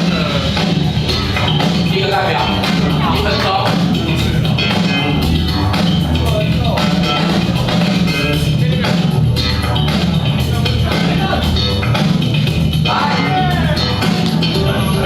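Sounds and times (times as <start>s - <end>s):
drums: 0.0s - 15.0s
guitar: 0.0s - 15.0s
loud funk music: 0.0s - 15.0s.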